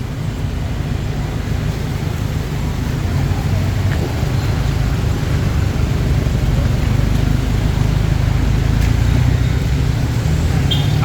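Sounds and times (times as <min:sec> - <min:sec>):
passing cars rumbling: 0:00.0 - 0:11.0.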